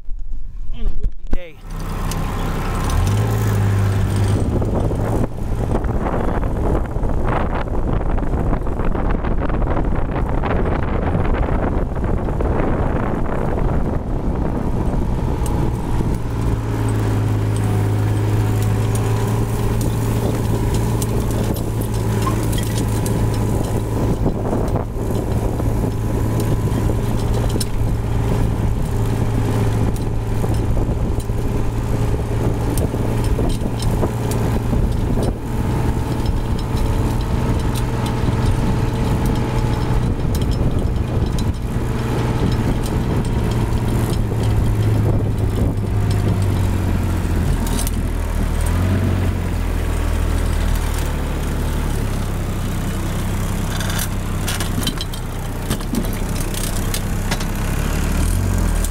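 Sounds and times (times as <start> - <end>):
vehicle engine idling: 0.4 - 58.9.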